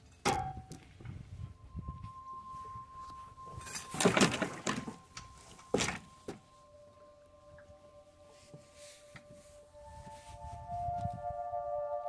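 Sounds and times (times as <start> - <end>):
faint steady tone: 0.0 - 12.0.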